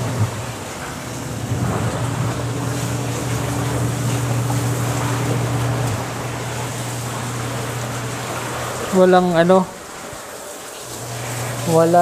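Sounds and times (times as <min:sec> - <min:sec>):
washing machine motor hum: 0:00.0 - 0:12.0
water churning: 0:00.0 - 0:12.0.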